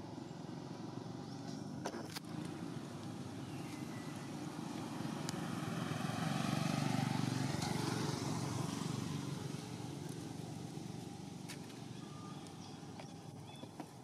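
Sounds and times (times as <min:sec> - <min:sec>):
passing vehicle engine: 0:00.0 - 0:14.0.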